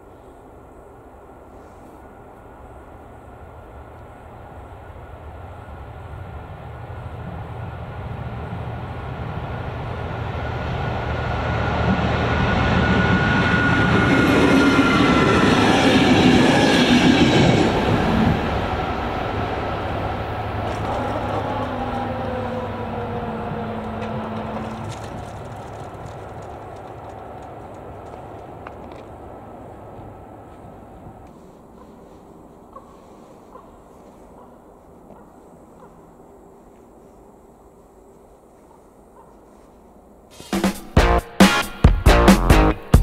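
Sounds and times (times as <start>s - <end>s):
diesel railcar passing: 0.0s - 37.8s.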